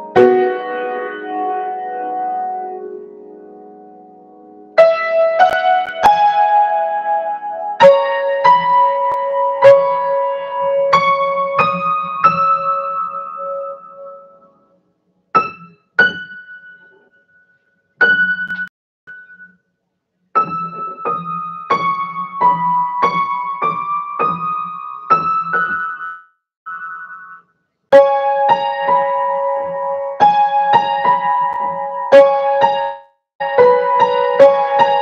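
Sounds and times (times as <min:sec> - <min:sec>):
piano melody on keyboard: 0:00.0 - 0:19.6, 0:20.4 - 0:35.0.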